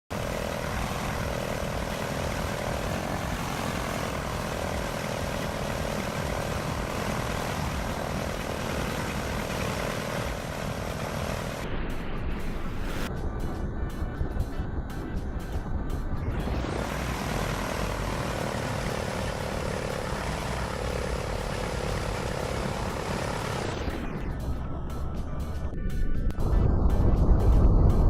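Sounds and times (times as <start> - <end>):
propeller airplane engine droning: 0.0 - 25.6
heavy low rumble: 0.1 - 28.0.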